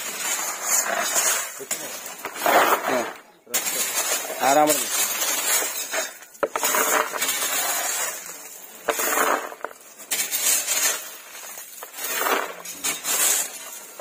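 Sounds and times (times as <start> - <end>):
hand shovel scooping gravel: 0.0 - 14.0
stones clinking into plastic basins: 0.0 - 14.0.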